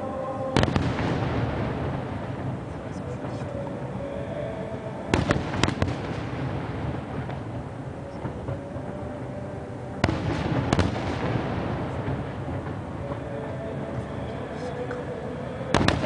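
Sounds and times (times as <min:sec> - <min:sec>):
low rumbling echo: 0:00.0 - 0:16.0.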